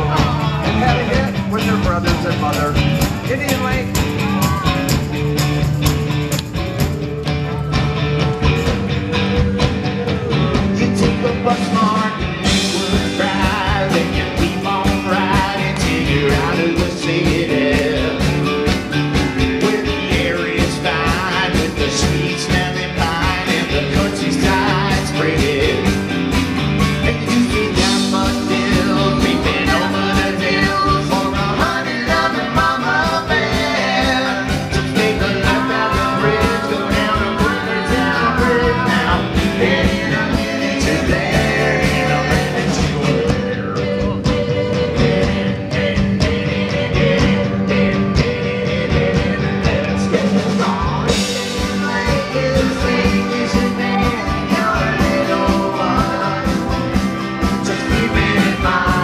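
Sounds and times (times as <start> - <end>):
live pop-rock band: 0.0 - 59.0
lead singing: 8.0 - 59.0.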